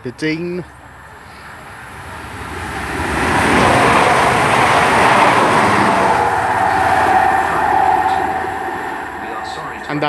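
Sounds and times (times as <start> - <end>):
train passing at speed: 1.0 - 10.0
steady whine: 1.6 - 10.0.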